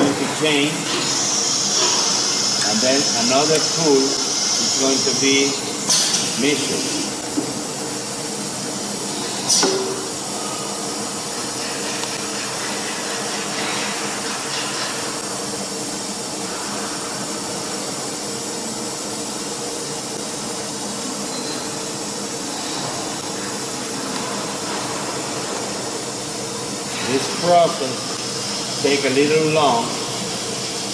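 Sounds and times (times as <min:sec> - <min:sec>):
machine hum and hiss: 0:00.0 - 0:30.9.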